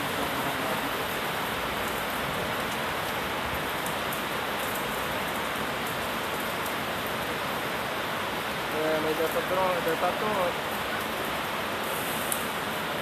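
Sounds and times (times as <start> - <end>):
heavy rain on flooded street: 0.0 - 13.0.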